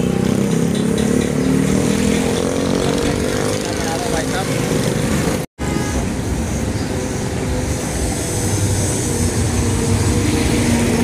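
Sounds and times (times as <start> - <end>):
motorcycle engines running: 0.0 - 11.0
steady engine drone: 0.0 - 11.0.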